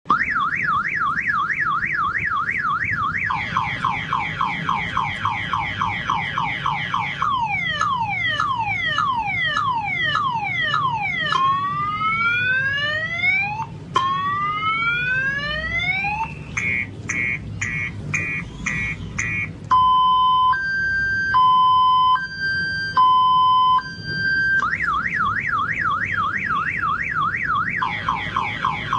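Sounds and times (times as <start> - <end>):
electronic car alarm siren: 0.1 - 28.9.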